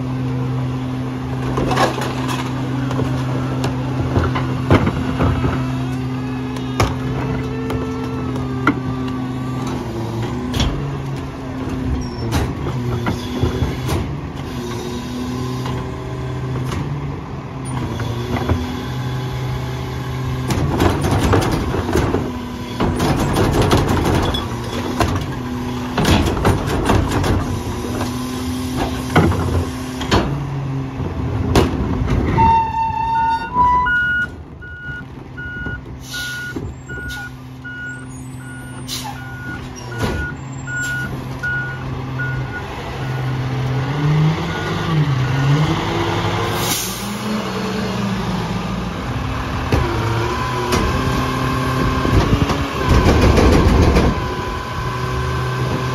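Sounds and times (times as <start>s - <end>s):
garbage truck engine running: 0.0s - 55.9s.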